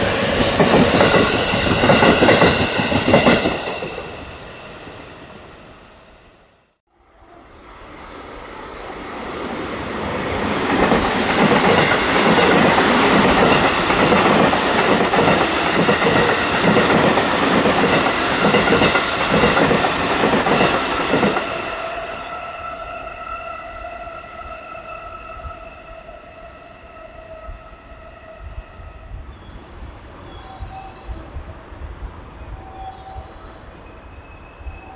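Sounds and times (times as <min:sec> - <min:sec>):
electric train passing at speed: 0:00.0 - 0:34.9.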